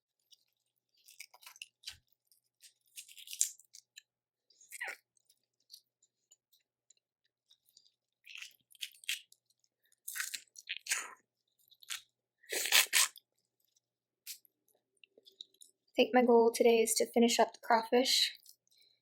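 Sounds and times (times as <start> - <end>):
crunching seafood shells: 0.2 - 15.9.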